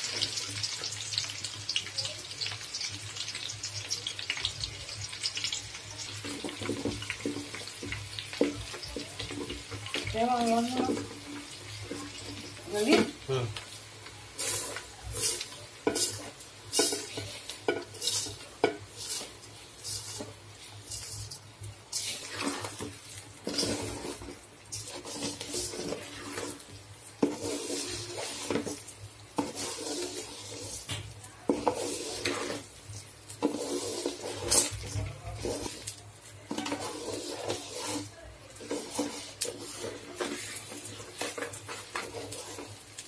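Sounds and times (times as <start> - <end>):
light sizzle of oil: 0.0 - 43.0
wooden spatula scraping metal pot: 5.4 - 13.3, 14.4 - 43.0.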